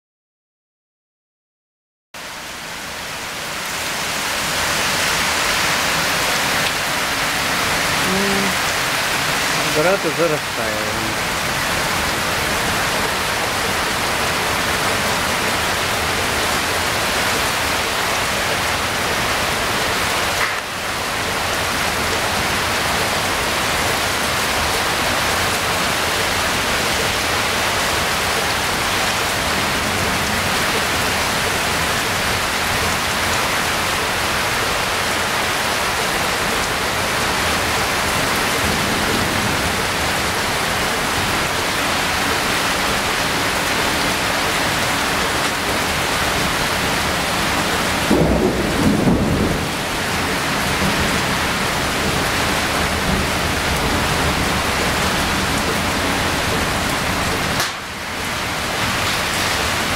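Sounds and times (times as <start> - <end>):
heavy rain falling: 2.2 - 59.9.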